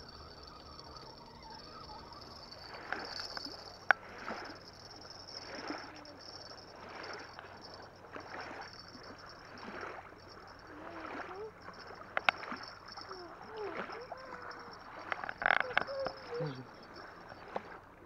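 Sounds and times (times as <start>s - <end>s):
small waves lapping on shore: 1.8s - 18.0s.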